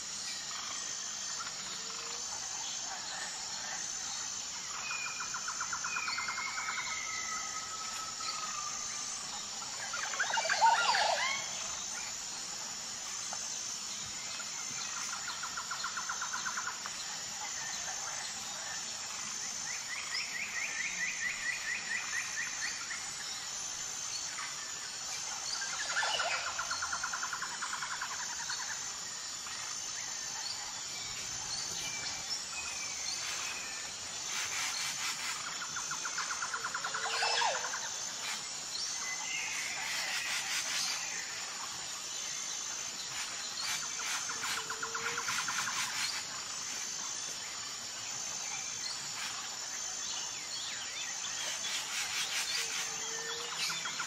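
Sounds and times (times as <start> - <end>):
pulsing insect chorus: 0.0 - 54.0.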